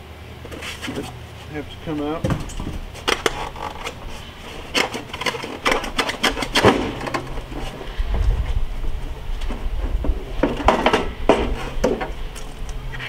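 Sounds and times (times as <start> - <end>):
knocks clicks and scrapes: 0.4 - 13.0
low rumble: 1.2 - 13.0.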